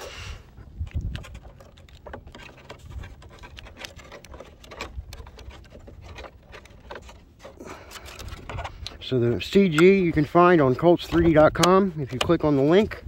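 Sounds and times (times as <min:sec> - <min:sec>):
wind on microphone: 0:00.0 - 0:06.2, 0:08.0 - 0:13.0
plastic clicks and rustles: 0:00.6 - 0:13.0.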